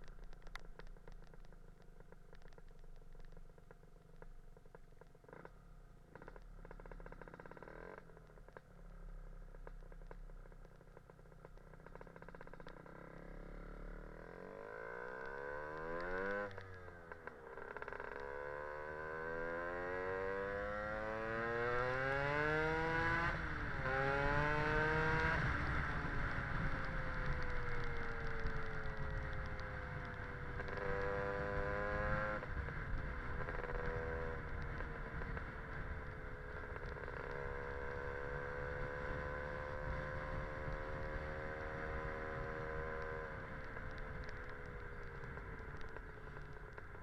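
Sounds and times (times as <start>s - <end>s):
scooter engine idling and accelerating: 0.0s - 47.0s.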